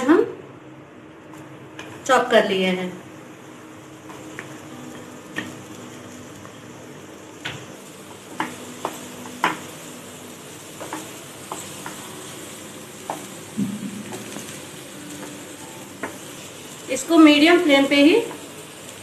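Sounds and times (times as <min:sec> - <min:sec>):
onions sizzling in hot oil: 0:01.8 - 0:19.0.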